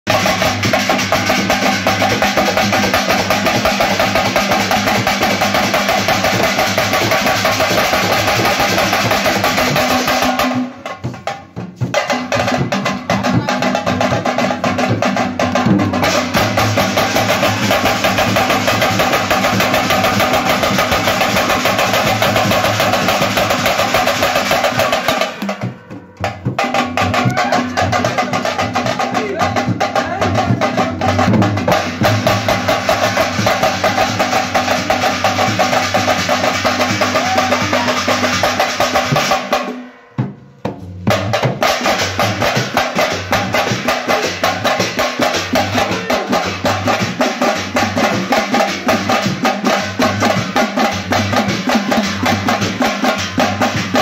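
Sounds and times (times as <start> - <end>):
barrel drums beaten with sticks: 0.1 - 54.0.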